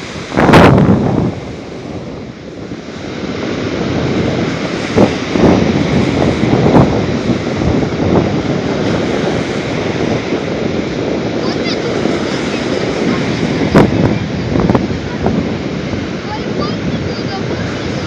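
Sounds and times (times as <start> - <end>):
storm waves breaking: 0.0 - 18.0
wind buffeting microphone: 0.0 - 18.0.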